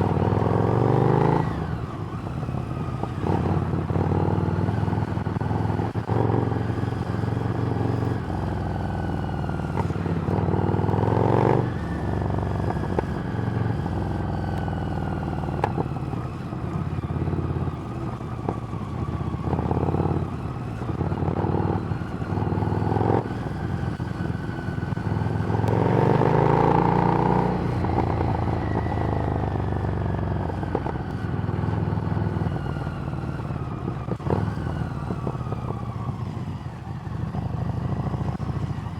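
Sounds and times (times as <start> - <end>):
motorcycle engine revving while riding: 0.0 - 38.9.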